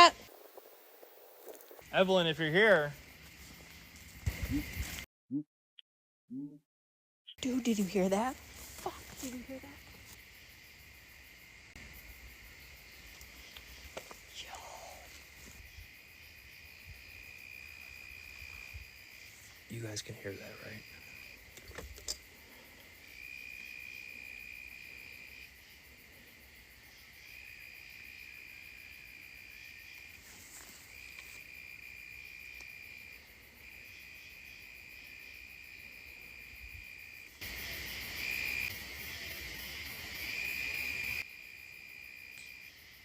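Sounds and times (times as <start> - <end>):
crickets trilling: 0.0 - 5.0, 7.4 - 43.0.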